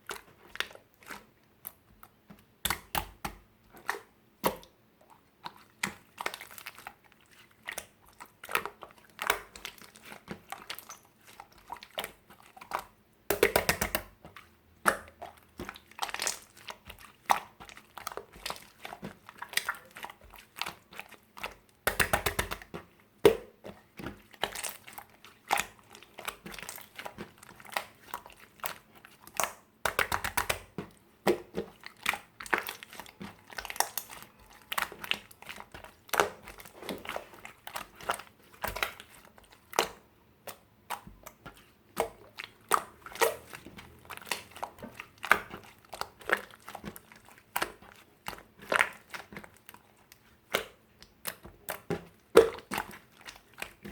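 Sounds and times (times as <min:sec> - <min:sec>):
soft material squished by hand: 0:00.0 - 0:53.9.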